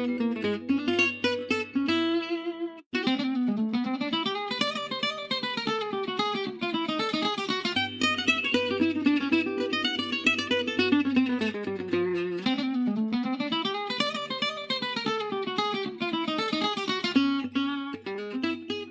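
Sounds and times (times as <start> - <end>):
plucked acoustic guitar: 0.0 - 18.9.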